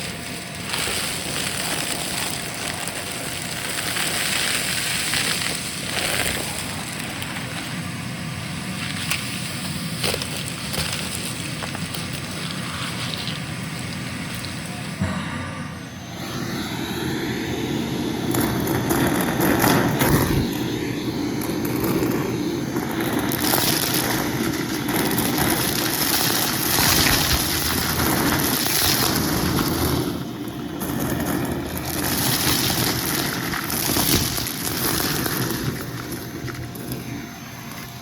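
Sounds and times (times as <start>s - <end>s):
debris crackling being sucked up: 0.0s - 38.0s
vacuum cleaner running: 0.0s - 38.0s.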